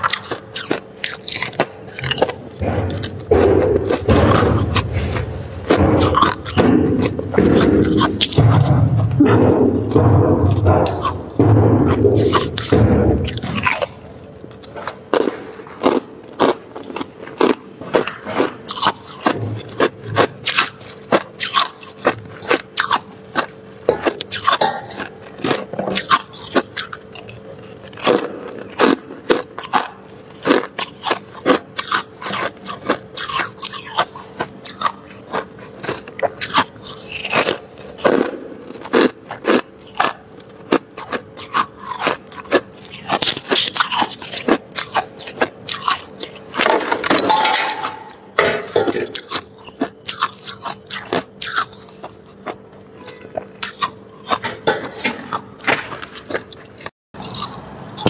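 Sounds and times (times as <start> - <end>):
ice crunching being chewed: 0.0 - 9.0, 9.8 - 58.0.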